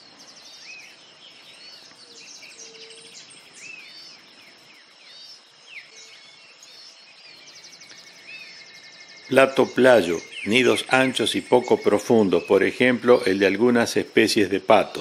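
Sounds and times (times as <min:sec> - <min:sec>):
birds chirping: 0:00.0 - 0:15.0
high-pitched insect trill: 0:00.6 - 0:15.0.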